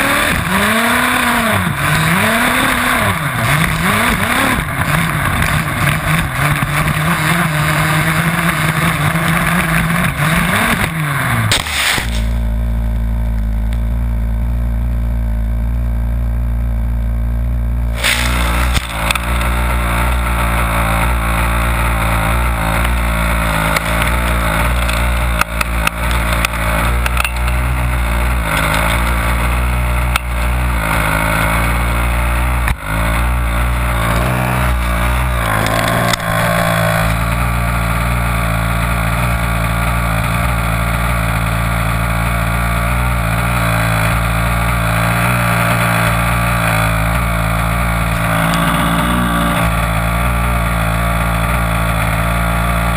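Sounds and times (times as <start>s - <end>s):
small two-stroke engine running: 0.0s - 52.9s.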